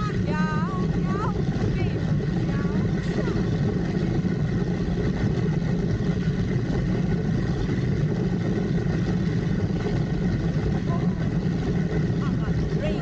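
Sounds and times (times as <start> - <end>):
low rumbling on steel cable: 0.0 - 13.0
wind on microphone: 0.0 - 13.0.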